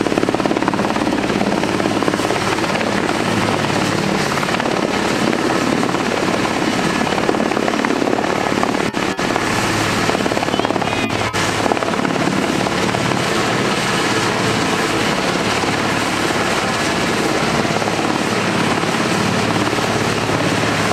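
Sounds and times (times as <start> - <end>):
helicopter rotor and turbine roar: 0.0 - 20.9.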